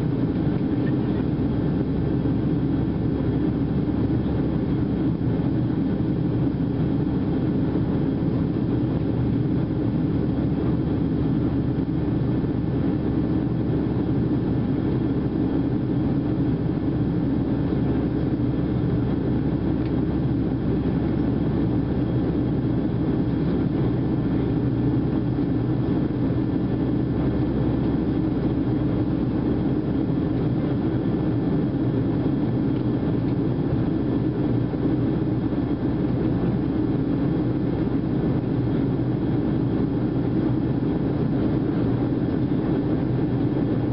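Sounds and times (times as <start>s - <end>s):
jet engines droning: 0.0s - 43.9s.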